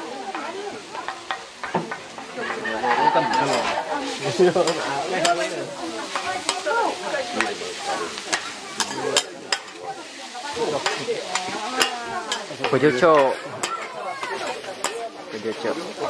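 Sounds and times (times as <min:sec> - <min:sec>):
noodles sizzling on a griddle: 0:00.0 - 0:16.0
spatula clacking on metal plate: 0:01.0 - 0:15.2
metal spatulas scraping: 0:01.0 - 0:15.6.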